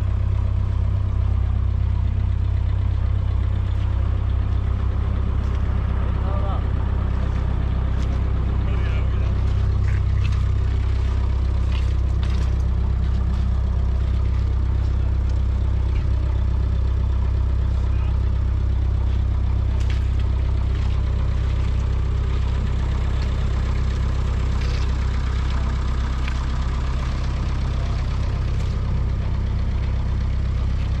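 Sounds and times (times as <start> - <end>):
tractor engine idling: 0.0 - 31.0.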